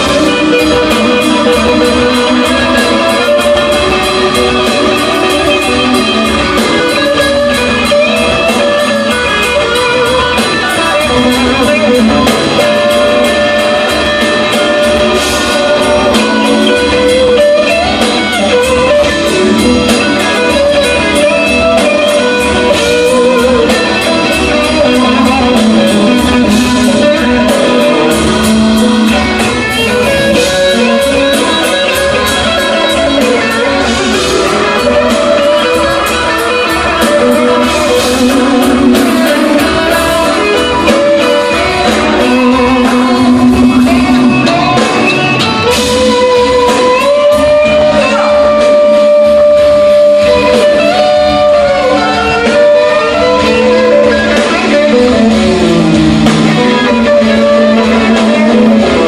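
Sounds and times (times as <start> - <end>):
electric guitars: 0.0 - 59.0
live rock band playing: 0.0 - 59.0.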